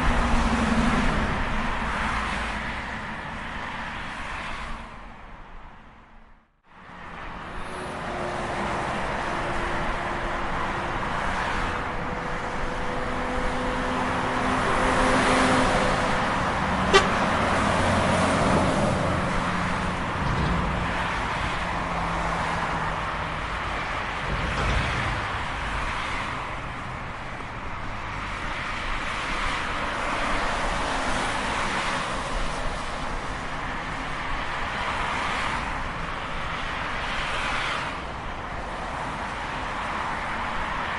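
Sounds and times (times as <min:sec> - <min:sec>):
highway traffic passing: 0:00.0 - 0:40.9.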